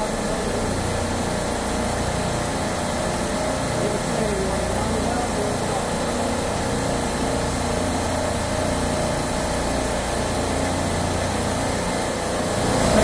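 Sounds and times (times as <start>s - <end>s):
refrigeration compressor humming: 0.0s - 13.0s.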